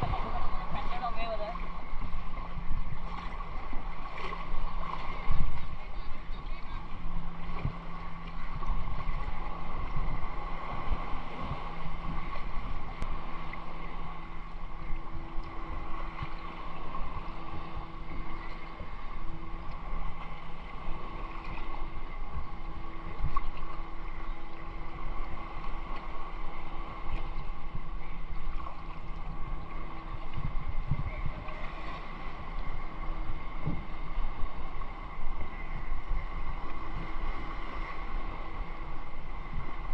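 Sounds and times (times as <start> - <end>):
faint steady hum: 0.0 - 39.9
seawater sloshing and lapping: 0.0 - 39.9
wind buffeting microphone: 0.0 - 39.9.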